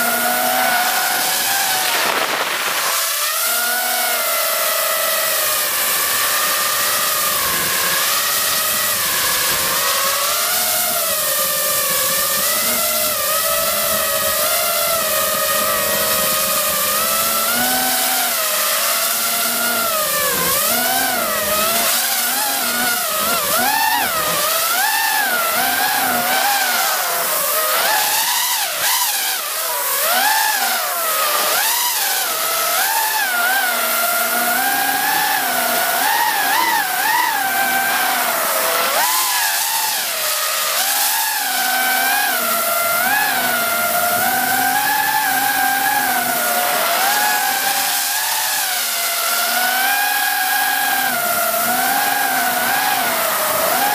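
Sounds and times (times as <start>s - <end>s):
drone motors whining: 0.0s - 53.9s.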